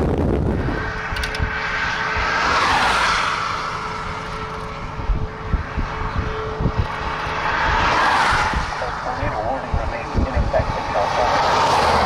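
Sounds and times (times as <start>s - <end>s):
wind buffeting microphone: 0.0s - 2.9s, 3.5s - 12.0s
vehicle passing whoosh: 0.0s - 12.0s
wind noise: 0.0s - 12.0s.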